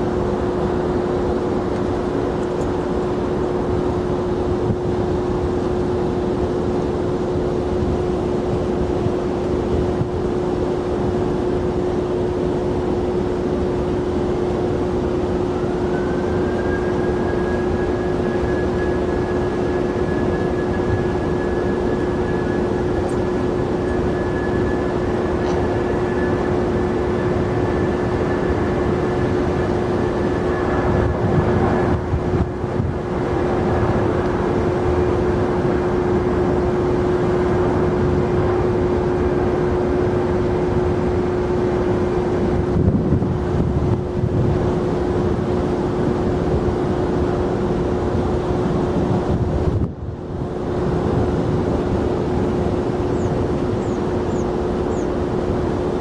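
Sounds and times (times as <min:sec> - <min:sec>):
jet engine whine: 0:00.0 - 0:56.0
jet engines rumbling: 0:00.0 - 0:56.0.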